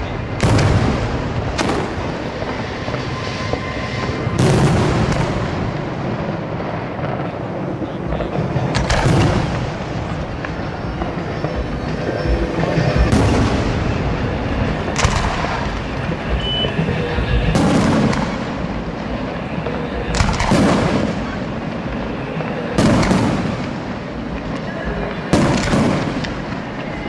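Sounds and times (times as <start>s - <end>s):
echoes of explosions: 0.0s - 27.0s
fireworks booming: 0.0s - 27.0s.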